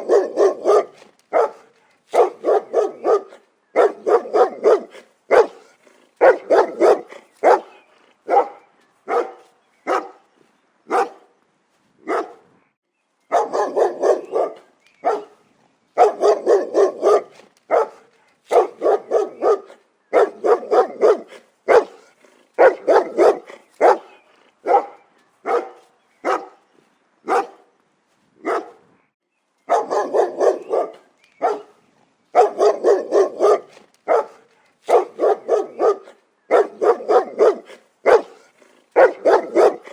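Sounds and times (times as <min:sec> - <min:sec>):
dog barking: 0:00.0 - 0:10.2, 0:10.9 - 0:11.3, 0:12.0 - 0:12.5, 0:13.3 - 0:15.4, 0:16.0 - 0:26.6, 0:27.2 - 0:27.7, 0:28.4 - 0:28.9, 0:29.7 - 0:39.9.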